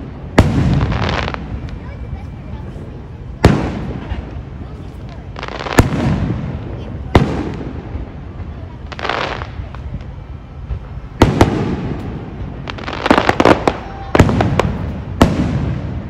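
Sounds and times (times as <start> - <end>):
fireworks booming: 0.0 - 16.0
fireworks crackling: 0.0 - 16.0
fireworks hiss: 0.0 - 16.0.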